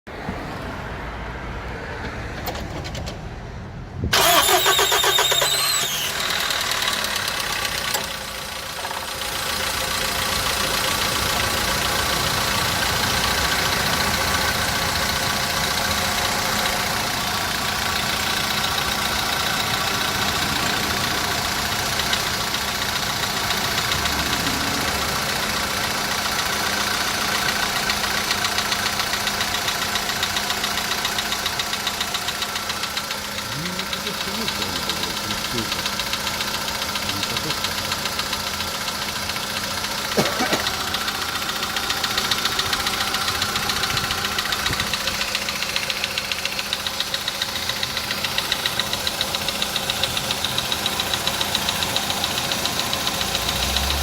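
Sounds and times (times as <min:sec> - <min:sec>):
car engine starting and idling: 0:00.1 - 0:54.0
engine knocking: 0:04.2 - 0:54.0.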